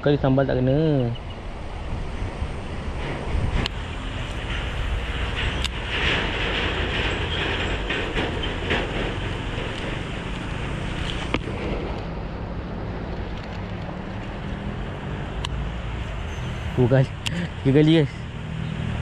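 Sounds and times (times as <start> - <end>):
wind buffeting microphone: 0.0 - 15.9.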